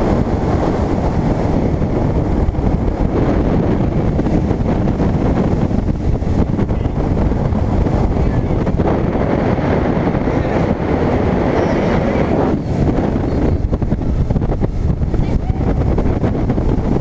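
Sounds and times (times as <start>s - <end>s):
boat motor: 0.0s - 17.0s
wind rushing on microphone: 0.0s - 17.0s.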